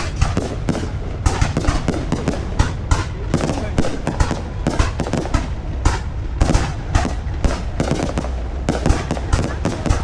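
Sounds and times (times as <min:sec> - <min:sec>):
continuous low rumble: 0:00.0 - 0:10.0
fireworks bangs: 0:00.0 - 0:10.0.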